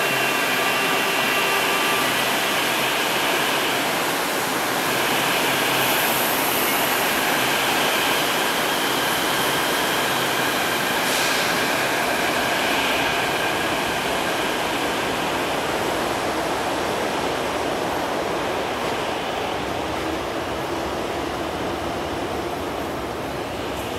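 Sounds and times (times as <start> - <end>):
metro train rumble: 0.0 - 23.9.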